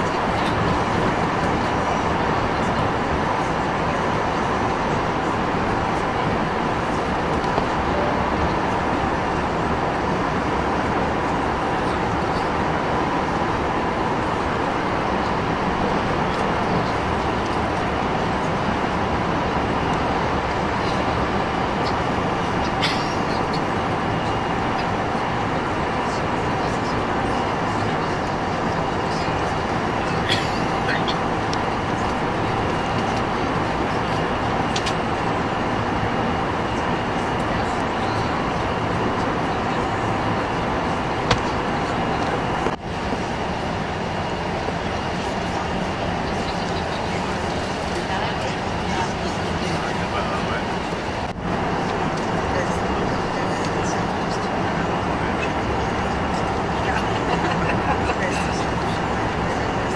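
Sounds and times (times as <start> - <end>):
airplane cabin engine rush: 0.0 - 59.9
faint steady whine: 0.0 - 59.9.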